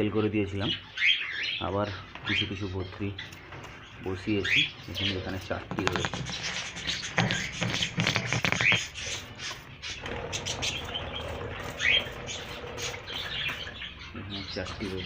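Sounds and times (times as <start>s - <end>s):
budgerigars chirping and chattering: 0.0s - 15.0s.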